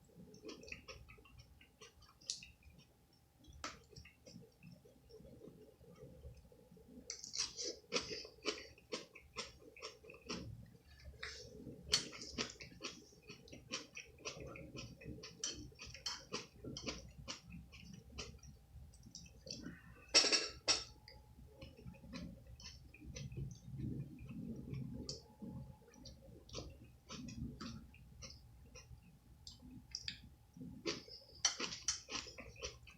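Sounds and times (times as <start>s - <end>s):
person chewing food: 0.2s - 20.0s, 20.8s - 32.9s.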